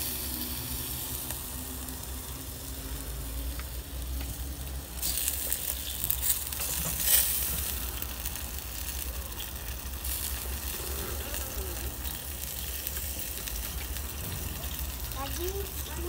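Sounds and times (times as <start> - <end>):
meat sizzling on grill: 0.0 - 16.0.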